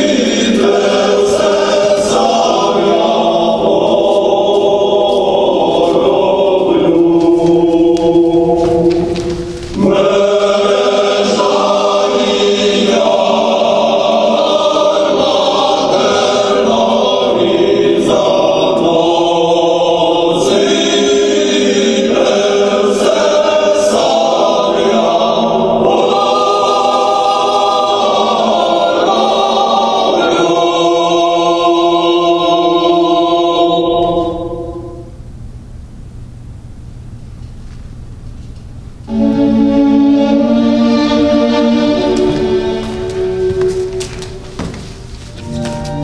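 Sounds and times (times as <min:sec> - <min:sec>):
choir singing sustained chords: 0:00.0 - 0:35.3, 0:39.0 - 0:46.0.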